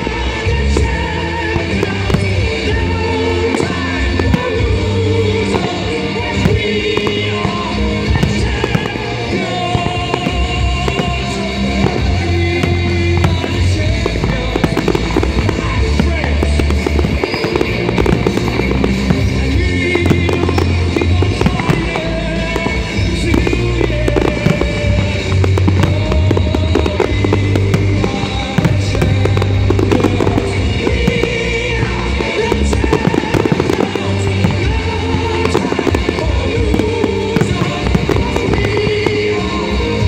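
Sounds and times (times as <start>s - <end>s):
fireworks bursts and crackles: 0.0s - 40.0s
music playing: 0.0s - 40.0s.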